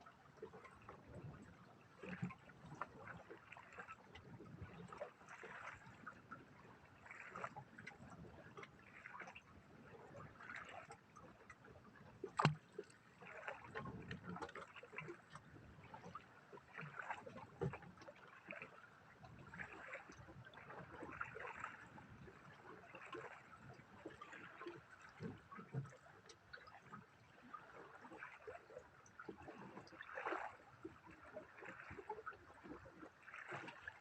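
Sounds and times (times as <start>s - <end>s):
water lapping against boat hull: 0.0s - 34.0s.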